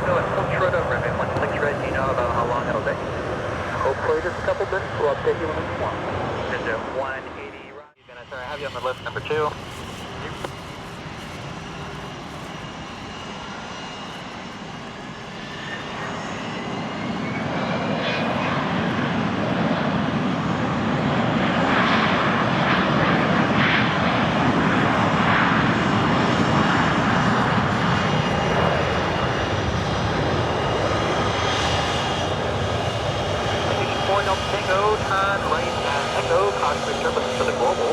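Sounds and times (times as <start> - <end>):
jet landing turbofan noise: 0.0 - 37.9.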